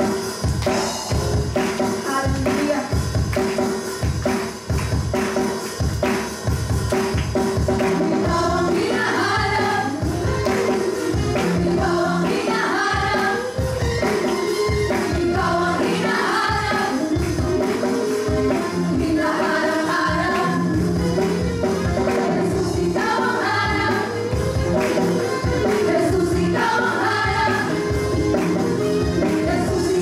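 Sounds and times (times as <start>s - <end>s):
music with steady beat: 0.0s - 30.0s.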